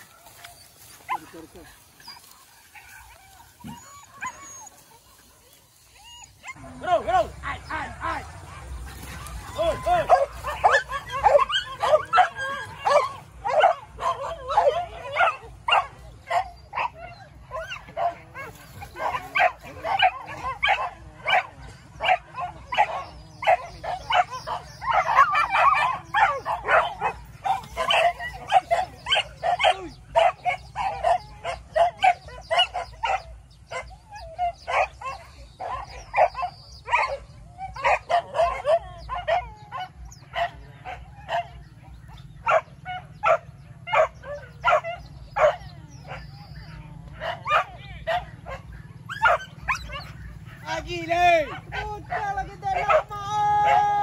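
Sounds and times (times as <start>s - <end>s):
dogs barking and yelping: 0.0s - 54.0s.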